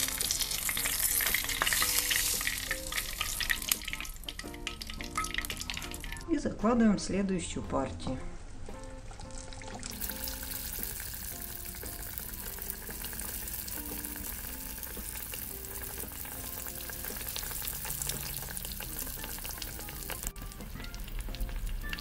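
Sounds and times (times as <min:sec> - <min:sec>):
pies sizzling in hot oil: 0:00.0 - 0:06.3, 0:09.0 - 0:22.0.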